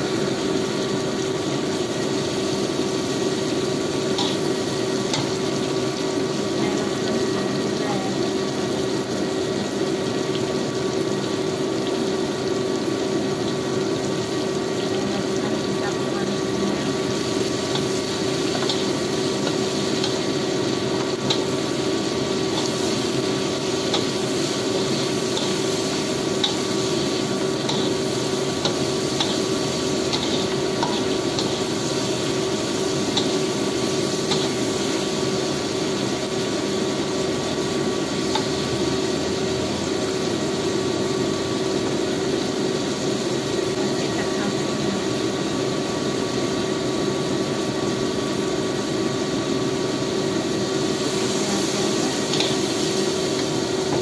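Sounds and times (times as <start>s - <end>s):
food sizzling in a wok: 0.0s - 54.0s.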